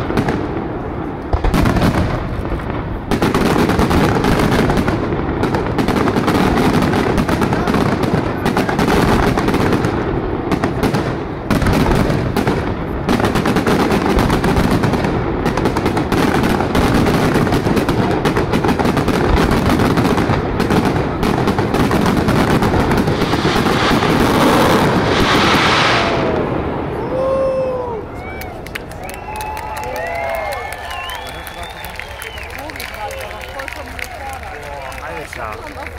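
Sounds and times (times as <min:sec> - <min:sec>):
fireworks bangs and crackle: 0:00.0 - 0:35.9.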